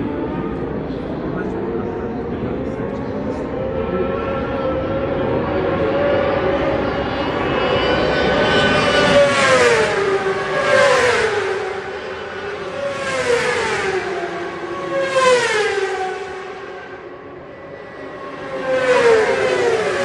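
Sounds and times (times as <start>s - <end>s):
motorbikes racing past: 3.8s - 20.0s.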